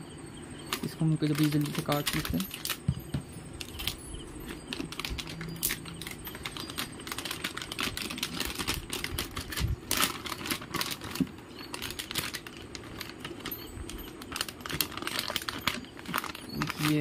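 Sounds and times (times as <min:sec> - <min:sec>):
plastic bag crinkling: 0:00.7 - 0:17.0.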